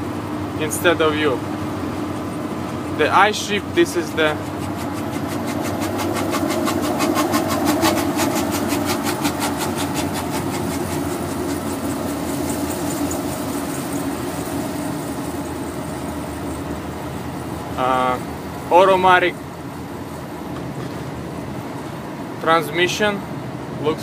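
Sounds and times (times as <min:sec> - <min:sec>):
diesel truck engine drone: 0:00.0 - 0:24.0
road noise: 0:00.0 - 0:24.0
rhythmic clatter: 0:00.6 - 0:21.1.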